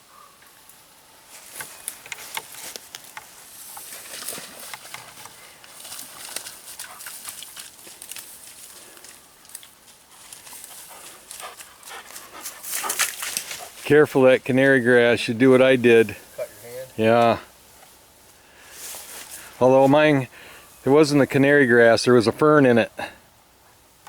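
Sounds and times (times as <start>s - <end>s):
footsteps through dry grass: 1.2s - 20.8s.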